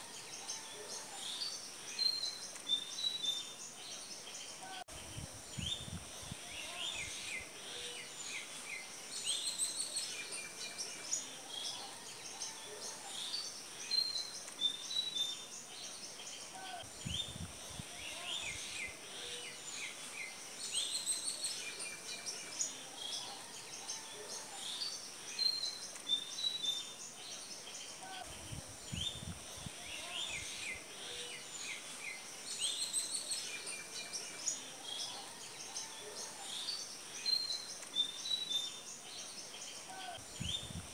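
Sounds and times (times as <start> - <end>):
small birds chirping: 0.0 - 40.9
steady high hiss: 0.0 - 40.9.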